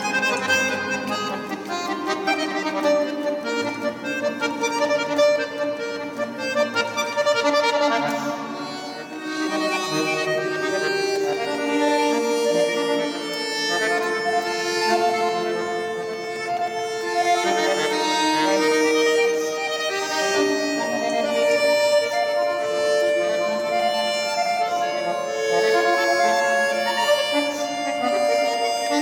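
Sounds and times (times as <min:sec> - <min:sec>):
accordion playing chords: 0:00.0 - 0:29.0.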